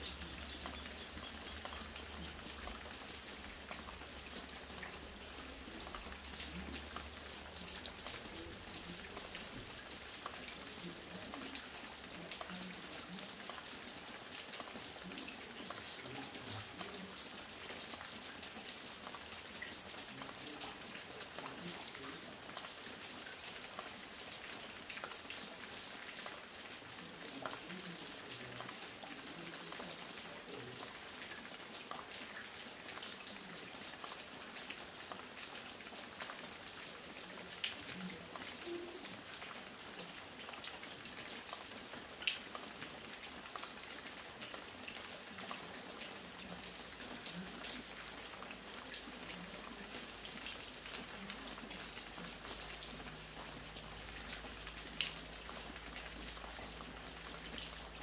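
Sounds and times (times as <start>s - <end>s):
rain dripping from roof: 0.0s - 58.0s.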